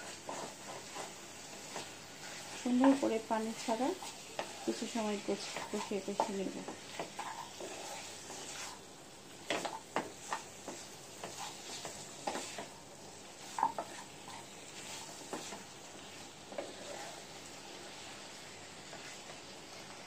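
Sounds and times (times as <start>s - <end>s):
meat sizzling: 0.0s - 20.0s
wooden spatula scraping a pan: 0.0s - 20.0s.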